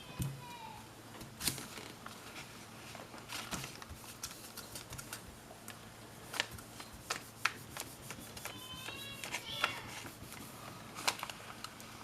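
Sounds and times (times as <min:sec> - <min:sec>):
hands handling plastic film: 0:01.4 - 0:12.0.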